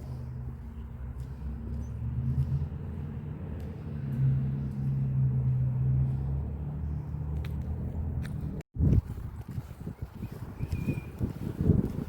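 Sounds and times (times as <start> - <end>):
engine running with low rumble: 0.0 - 9.8.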